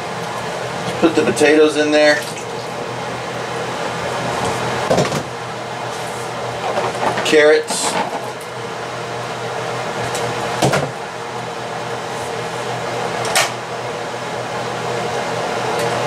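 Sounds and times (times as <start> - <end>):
appliance hum and hiss: 0.0 - 16.0.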